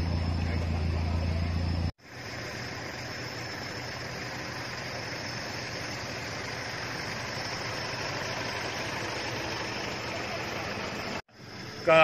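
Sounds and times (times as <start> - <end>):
pickup truck engines idling: 0.0 - 12.0
steady hiss: 2.0 - 12.0.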